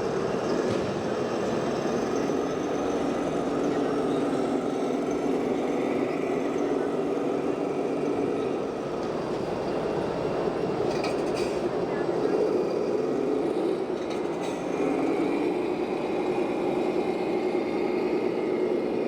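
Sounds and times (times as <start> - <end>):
steady mechanical drone: 0.0 - 19.0.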